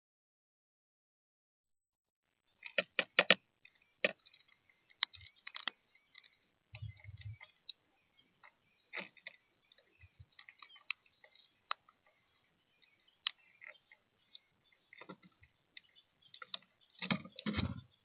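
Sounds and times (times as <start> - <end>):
birds pecking seed on feeder: 2.4 - 18.0.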